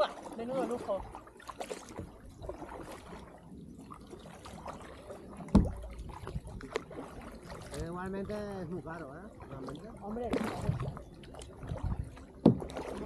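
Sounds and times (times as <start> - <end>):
paddles pulling through water: 0.0 - 13.0
water dripping and splashing: 0.0 - 13.0.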